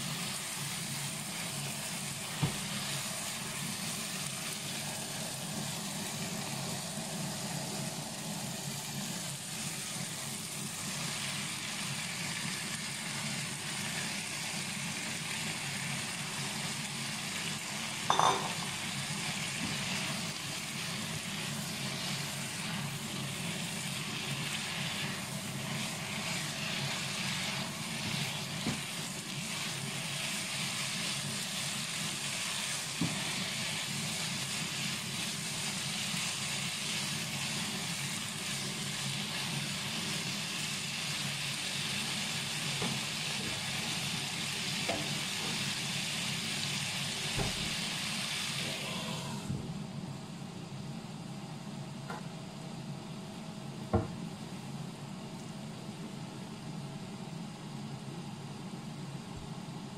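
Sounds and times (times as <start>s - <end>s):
vegetables sizzling in a pan: 0.0s - 49.7s.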